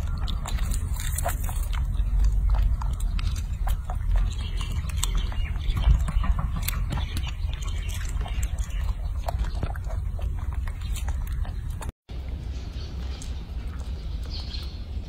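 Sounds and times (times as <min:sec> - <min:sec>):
baby monkey chewing and smacking: 0:00.0 - 0:15.0.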